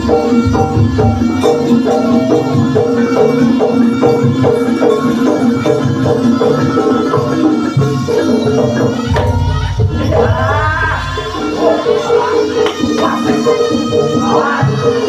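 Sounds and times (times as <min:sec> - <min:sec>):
drum strokes: 0:00.0 - 0:15.0
gamelan music: 0:00.0 - 0:15.0
pitched percussion melody: 0:00.0 - 0:15.0.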